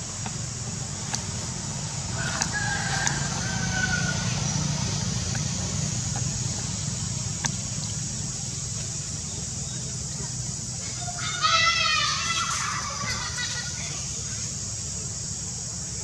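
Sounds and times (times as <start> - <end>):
high insect drone: 0.0 - 16.0
steady low hum: 0.0 - 16.0.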